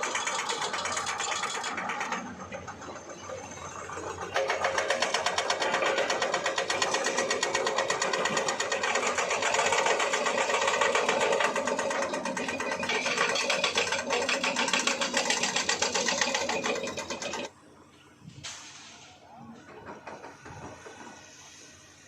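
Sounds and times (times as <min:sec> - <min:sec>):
engine clattering: 0:00.0 - 0:17.5, 0:19.5 - 0:21.4.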